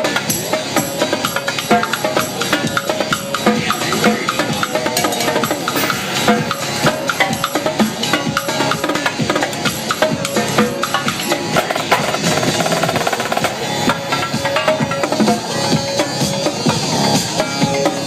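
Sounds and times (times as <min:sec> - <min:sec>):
dance music: 0:00.0 - 0:18.0
drum strikes with sticks: 0:00.0 - 0:18.0.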